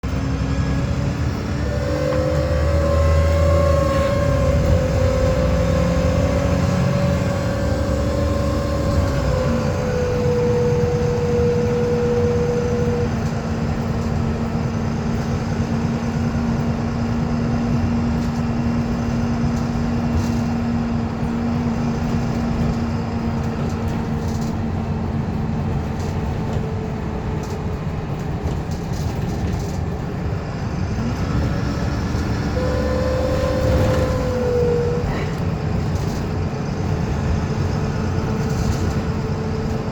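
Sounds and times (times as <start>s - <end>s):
bus engine running: 0.0s - 39.9s
road rumble: 0.0s - 39.9s
whirring whine: 0.0s - 39.9s.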